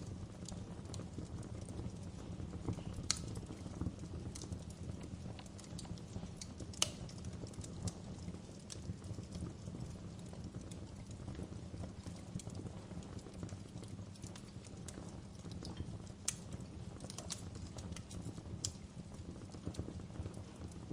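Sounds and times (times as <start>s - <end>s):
wood fire crackling and popping: 0.0s - 20.9s.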